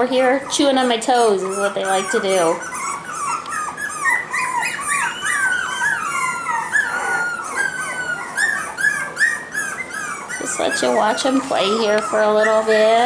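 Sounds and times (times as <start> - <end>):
puppies whining and yipping: 0.0 - 13.0.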